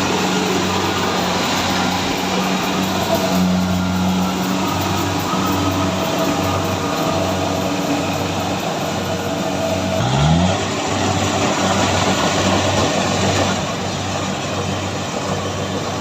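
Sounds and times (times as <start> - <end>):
combine harvester diesel engine: 0.0 - 16.0
threshing machinery running: 0.0 - 16.0.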